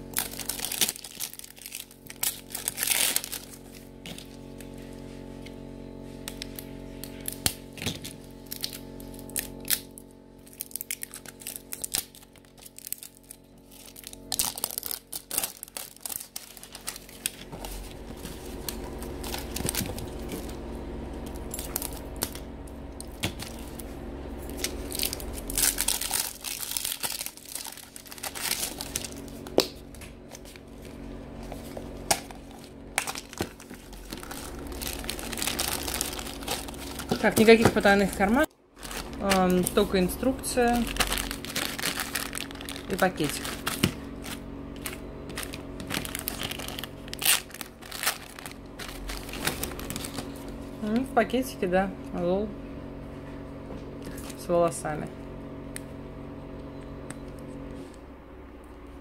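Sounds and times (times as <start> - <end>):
plastic and paper crinkling: 0.0 - 5.2, 6.1 - 20.6, 23.0 - 51.0.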